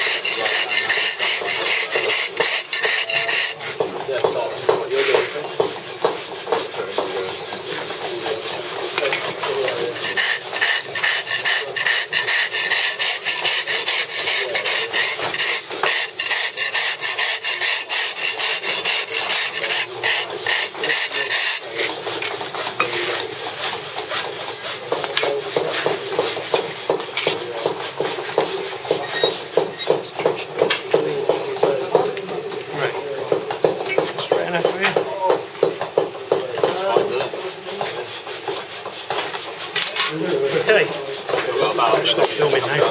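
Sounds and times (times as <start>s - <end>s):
steel drag rasping on stone: 0.0s - 30.5s, 36.7s - 42.9s.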